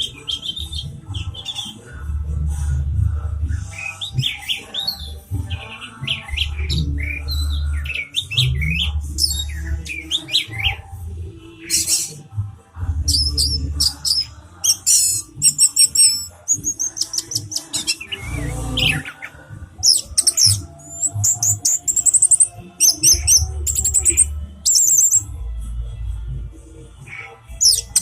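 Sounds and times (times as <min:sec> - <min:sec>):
thrush singing: 0:00.0 - 0:28.0.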